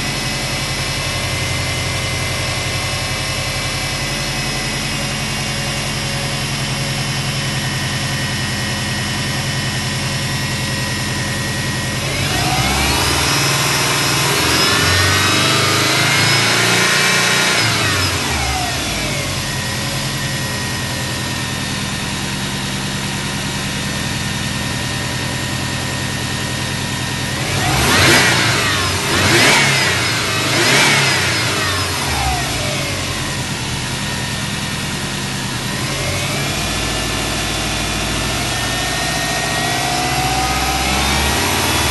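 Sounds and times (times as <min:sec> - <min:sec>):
car engine idling and revving: 0:00.0 - 0:41.9.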